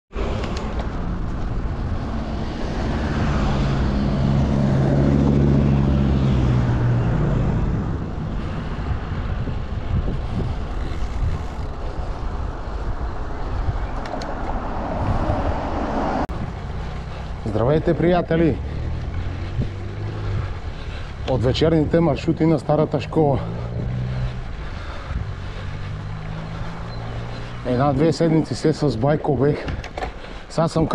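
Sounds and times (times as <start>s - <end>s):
wind noise on microphone: 0.2s - 17.7s, 18.7s - 27.6s
motor vehicle passing: 0.2s - 30.5s.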